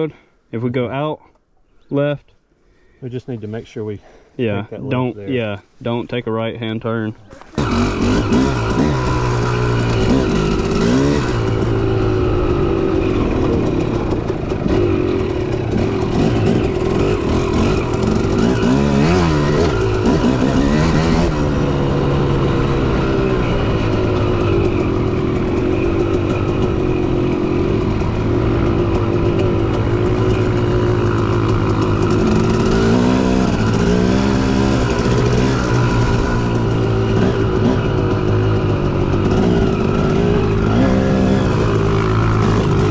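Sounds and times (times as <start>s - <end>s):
dirt bike engine revving: 7.5s - 42.9s.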